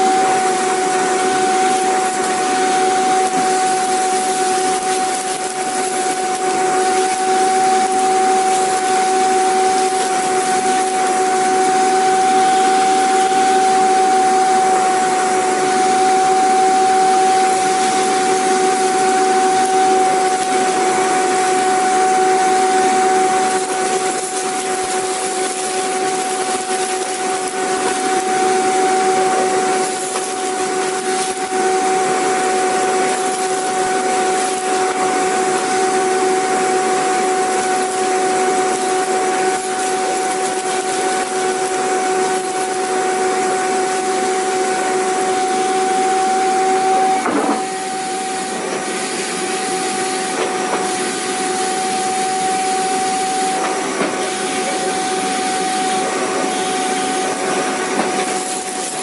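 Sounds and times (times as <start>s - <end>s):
vacuum cleaner motor running: 0.0s - 59.0s.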